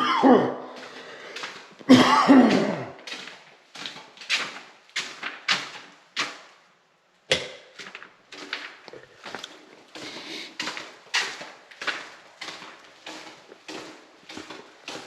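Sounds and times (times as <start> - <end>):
footsteps on hard floor: 0.0 - 6.4, 7.7 - 15.0.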